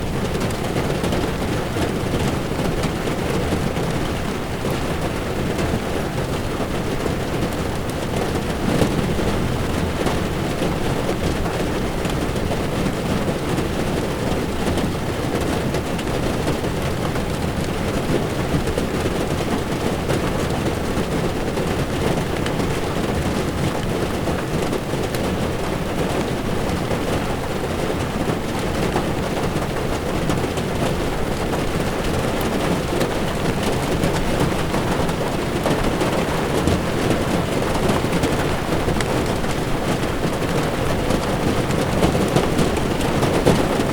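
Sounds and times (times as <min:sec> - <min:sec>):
heavy rain on windshield: 0:00.0 - 0:43.9
tyres rolling on wet road: 0:00.0 - 0:43.9.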